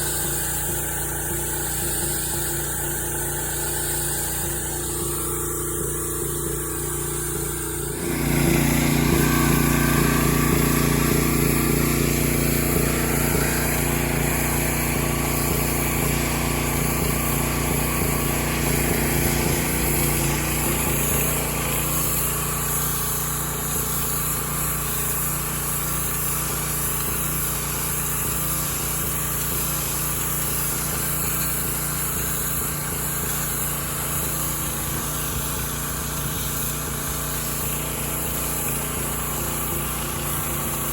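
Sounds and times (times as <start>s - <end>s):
pressure washer engine running: 0.0s - 40.9s
water spray hiss: 0.0s - 40.9s.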